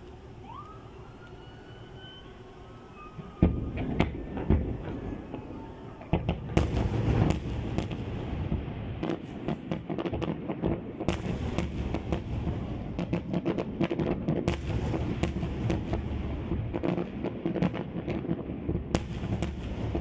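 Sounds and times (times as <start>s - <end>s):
continuous low rumble: 0.0s - 20.0s
fireworks bangs and crackles: 2.9s - 20.0s.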